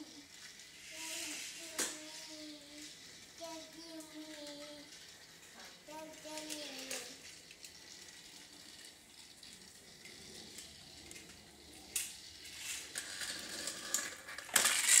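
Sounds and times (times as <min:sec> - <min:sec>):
toy train whirring and rattling: 0:00.0 - 0:15.0.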